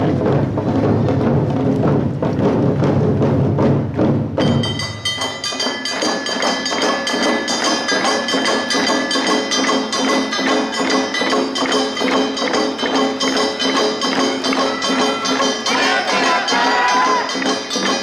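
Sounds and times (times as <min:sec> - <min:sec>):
deep taiko drums: 0:00.0 - 0:18.0
quick percussion strokes: 0:00.0 - 0:18.0.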